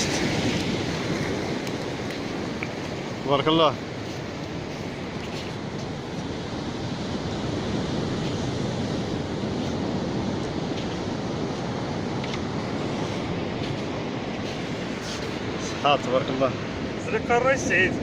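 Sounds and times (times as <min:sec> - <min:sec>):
sea surf washing onto beach: 0:00.0 - 0:18.0
wind noise: 0:00.0 - 0:18.0.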